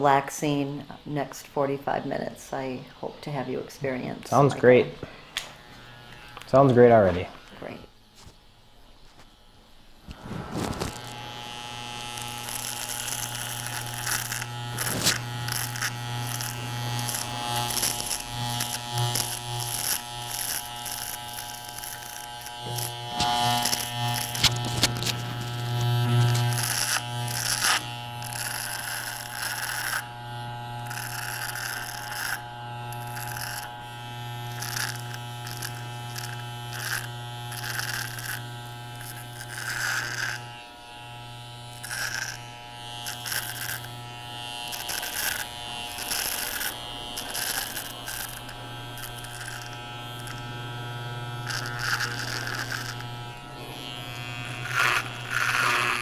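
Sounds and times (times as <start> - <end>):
electric hair trimmer buzzing: 0.0 - 56.0
blades rasping through stubble: 3.8 - 8.4, 10.0 - 56.0.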